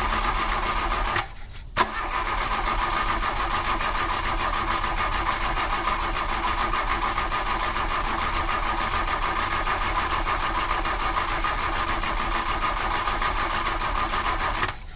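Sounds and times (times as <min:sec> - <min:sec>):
car engine cranking: 0:00.0 - 0:14.9.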